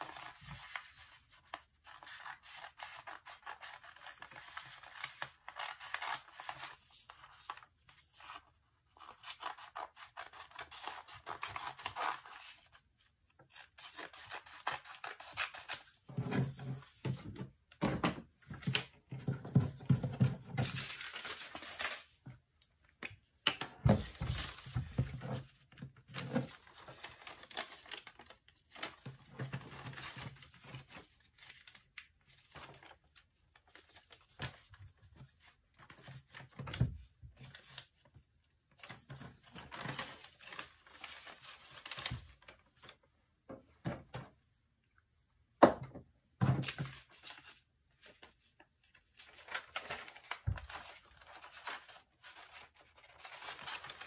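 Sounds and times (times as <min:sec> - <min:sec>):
paper rustling and crinkling: 0:00.0 - 0:17.5, 0:18.4 - 0:43.1, 0:46.5 - 0:54.0.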